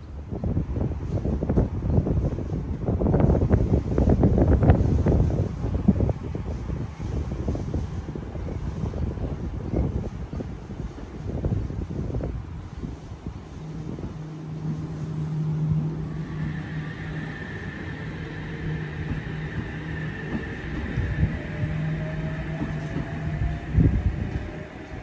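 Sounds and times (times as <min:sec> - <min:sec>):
electric train hum and whine: 0:00.0 - 0:25.0
low rumble: 0:01.2 - 0:25.0.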